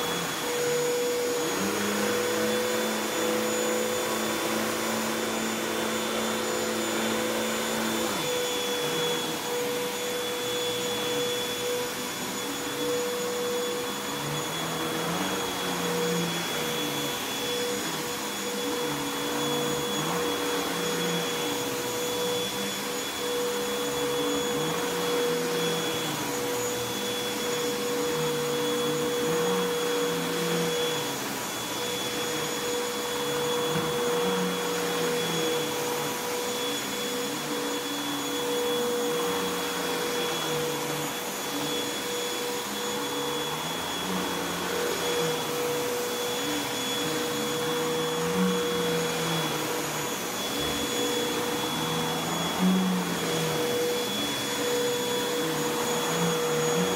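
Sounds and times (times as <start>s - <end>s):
vacuum cleaner on carpet: 0.0s - 56.9s.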